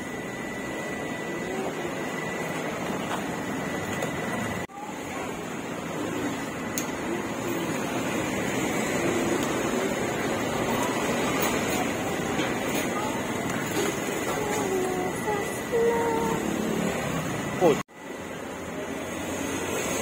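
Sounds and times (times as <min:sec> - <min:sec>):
thin constant whine: 0:00.0 - 0:20.0
rushing street noise: 0:03.1 - 0:20.0.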